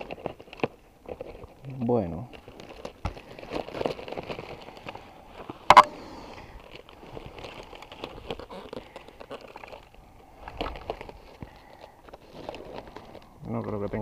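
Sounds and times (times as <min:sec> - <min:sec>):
foam crackling and rustling: 0:00.0 - 0:14.0.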